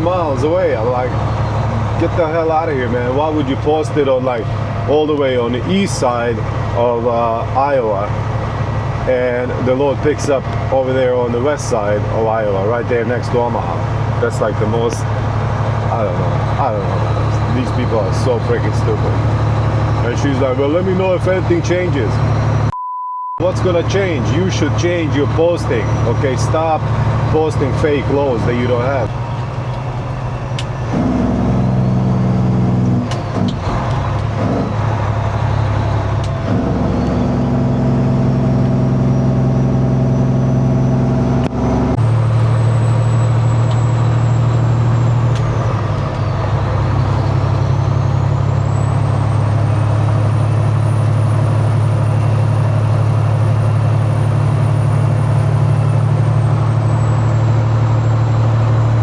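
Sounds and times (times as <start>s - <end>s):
truck diesel engine running: 0.0s - 22.7s, 23.4s - 59.0s.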